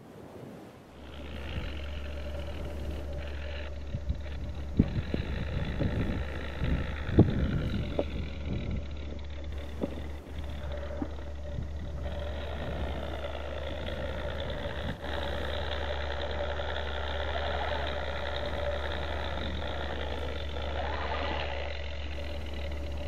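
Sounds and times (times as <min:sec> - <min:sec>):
simulated engine from small speaker: 0:00.9 - 0:23.0.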